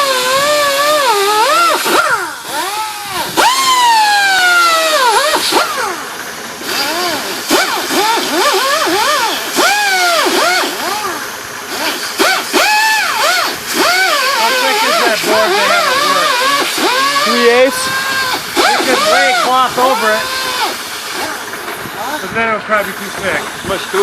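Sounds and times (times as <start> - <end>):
small motor whining: 0.0 - 24.0.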